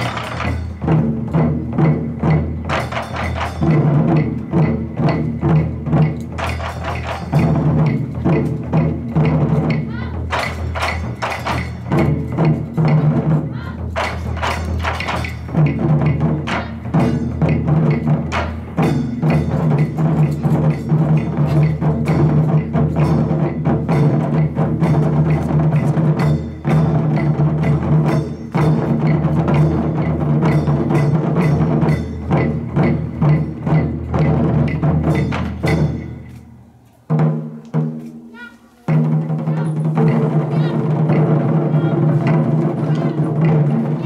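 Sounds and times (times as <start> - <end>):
taiko drum ensemble playing: 0.0 - 44.0.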